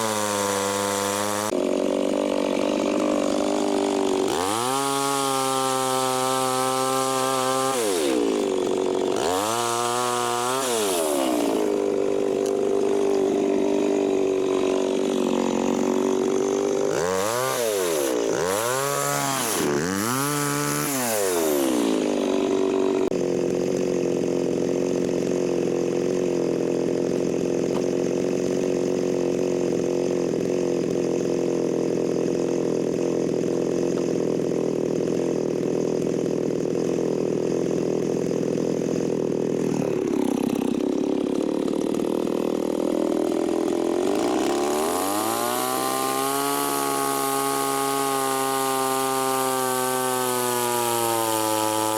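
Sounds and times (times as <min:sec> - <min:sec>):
chainsaw engine revving: 0:00.0 - 0:51.9.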